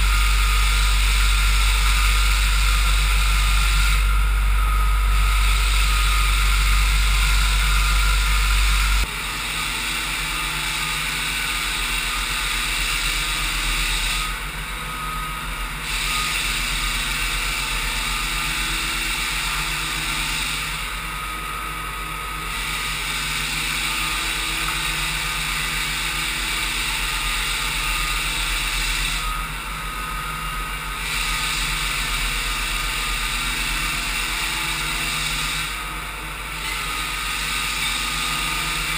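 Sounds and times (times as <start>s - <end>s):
floor sander humming: 0.0s - 38.9s.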